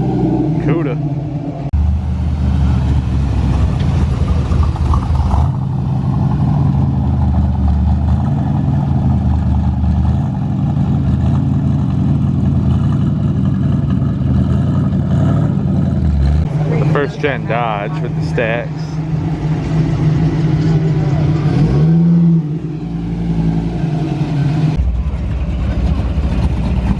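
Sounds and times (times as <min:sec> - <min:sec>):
car engine rumbling: 0:00.0 - 0:26.9.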